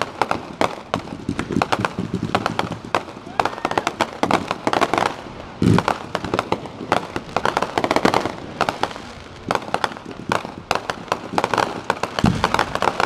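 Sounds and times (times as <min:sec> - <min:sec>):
firework shell booming: 0:00.0 - 0:13.0
rapid crackling firework pops: 0:00.0 - 0:13.0.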